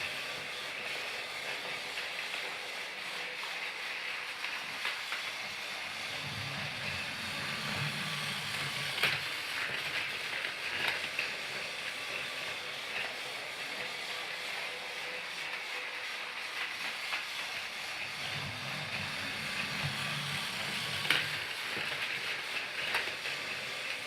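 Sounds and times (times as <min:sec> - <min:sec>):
toy train hissing: 0:00.0 - 0:24.0.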